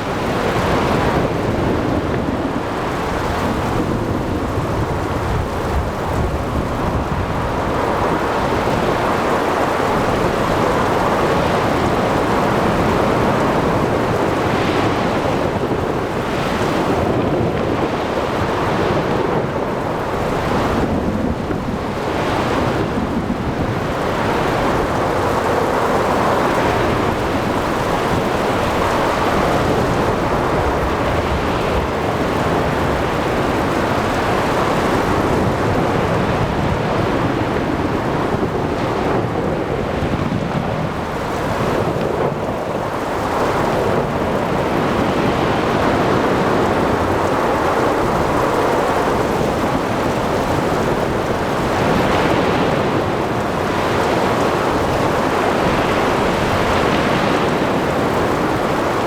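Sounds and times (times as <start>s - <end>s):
blowing wind: 0.0s - 59.0s
heavy rain: 0.0s - 59.0s
waves splashing: 0.0s - 59.0s.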